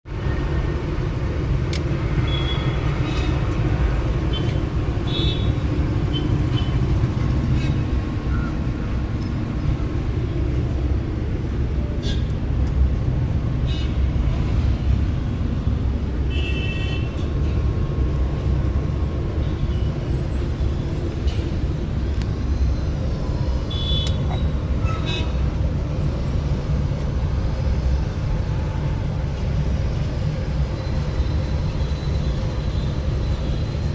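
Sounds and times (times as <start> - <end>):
road traffic rumble: 0.1 - 33.9.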